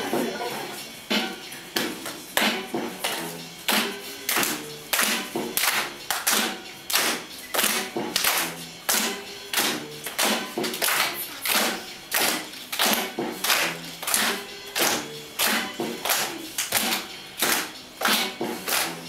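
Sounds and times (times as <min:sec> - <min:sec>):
faint music: 0:00.0 - 0:19.0
rhythmic clapping: 0:00.0 - 0:19.0.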